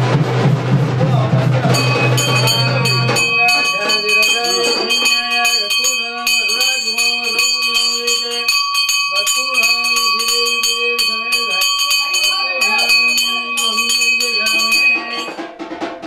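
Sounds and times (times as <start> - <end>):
melodic line: 1.7 - 15.4
brass bell ringing rapidly: 1.7 - 15.6.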